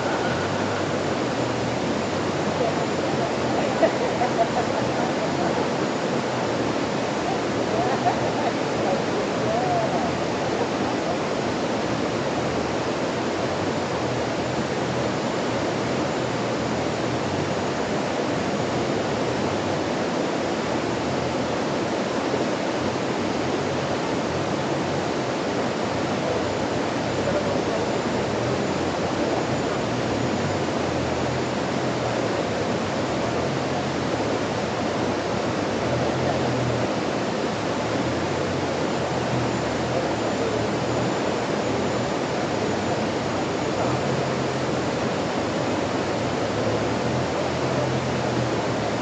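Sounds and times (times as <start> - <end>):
stream water rushing: 0.0 - 49.0.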